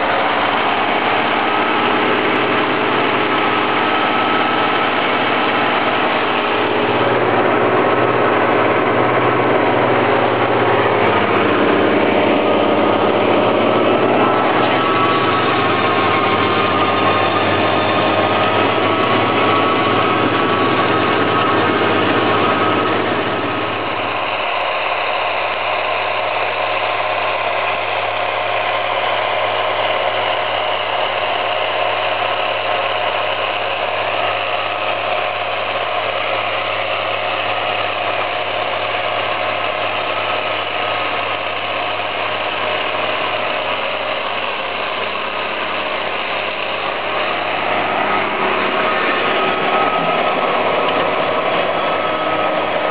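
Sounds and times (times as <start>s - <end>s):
high turbo whistle: 0.0s - 32.1s, 42.6s - 52.9s
tractor diesel engine under load: 0.0s - 52.9s.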